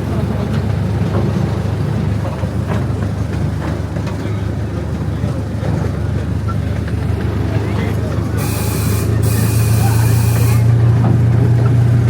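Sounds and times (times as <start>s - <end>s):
park train rumbling: 0.0s - 12.0s.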